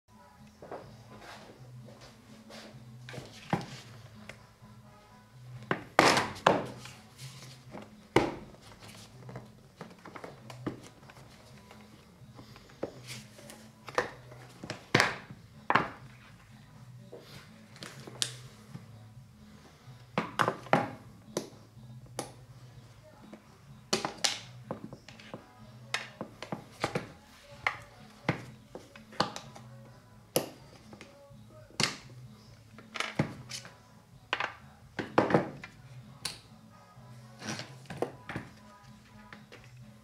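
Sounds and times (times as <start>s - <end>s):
faint background music: 0.1s - 40.0s.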